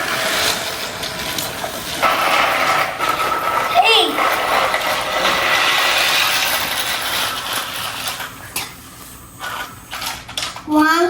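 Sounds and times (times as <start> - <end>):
toy train motor whirring: 0.0 - 10.9
plastic wheels rattling on track: 0.0 - 11.0.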